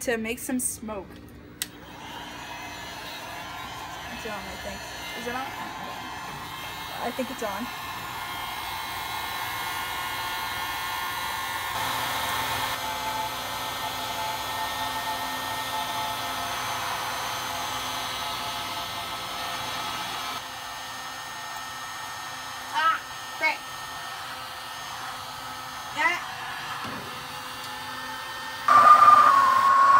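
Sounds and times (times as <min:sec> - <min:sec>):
hot-air gun blowing: 0:01.6 - 0:29.9.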